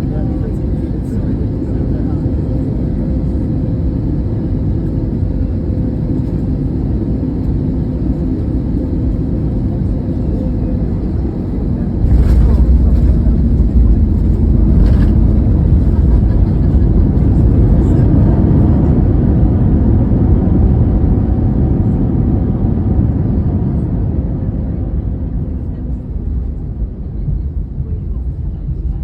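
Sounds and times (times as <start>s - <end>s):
aircraft cabin rumble: 0.0s - 29.0s
engine and runway noise: 0.0s - 29.0s.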